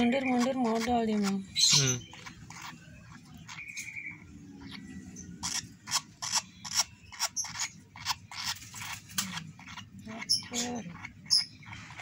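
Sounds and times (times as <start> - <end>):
bird chick squeak: 0.0 - 12.0.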